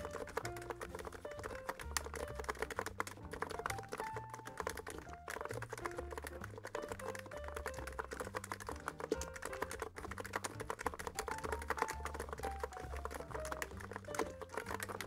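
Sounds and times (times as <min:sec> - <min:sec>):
background music: 0:00.0 - 0:15.0
keyboard typing clicks: 0:00.0 - 0:15.0.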